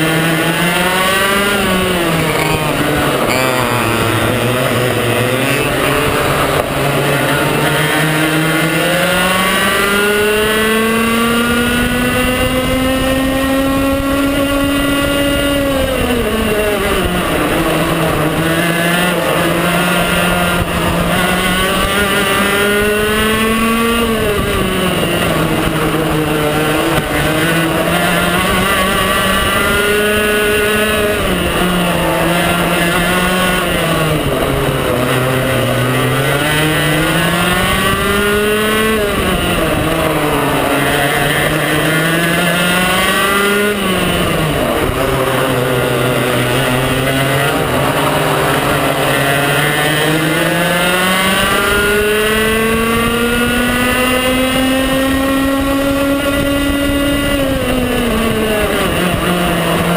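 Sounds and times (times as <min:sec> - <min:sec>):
kart engine buzzing and revving: 0:00.0 - 0:59.9.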